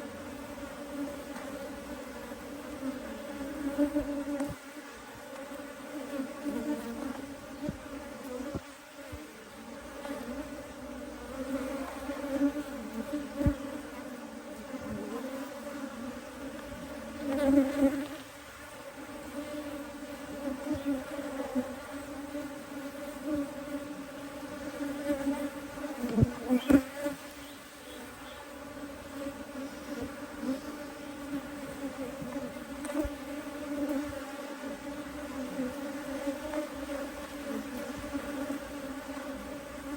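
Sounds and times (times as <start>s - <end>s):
bees humming: 0.0s - 39.9s.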